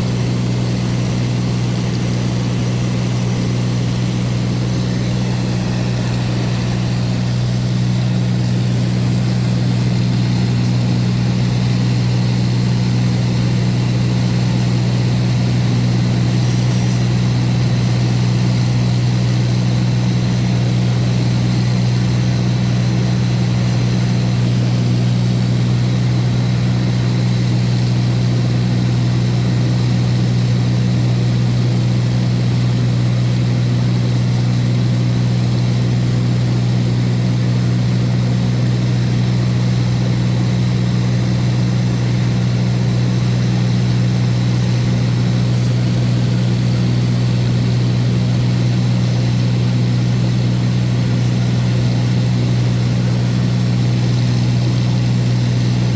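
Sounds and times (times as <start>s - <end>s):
aircraft engine and propeller droning: 0.0s - 55.9s.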